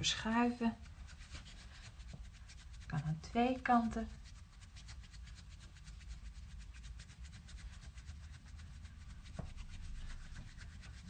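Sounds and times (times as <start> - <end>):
faint low hum: 0.0 - 11.0
hands rubbing skin: 0.5 - 11.0.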